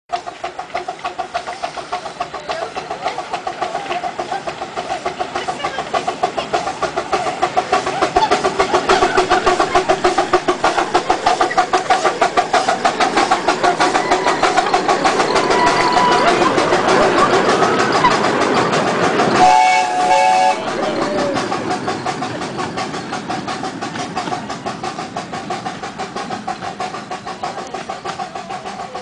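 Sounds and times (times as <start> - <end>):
steam locomotive chuffing: 0.1 - 29.0.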